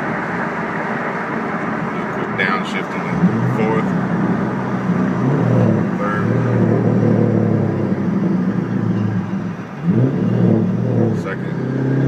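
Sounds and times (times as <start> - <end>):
car engine pulling: 0.0 - 12.0.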